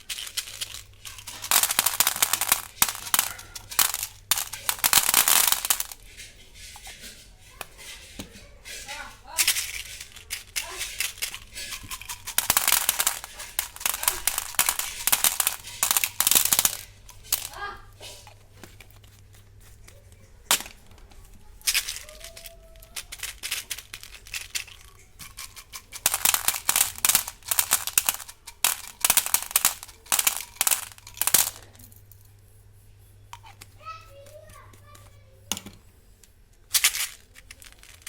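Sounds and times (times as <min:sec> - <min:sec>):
candy wrappers crinkling: 0:00.0 - 0:32.2, 0:36.6 - 0:38.0.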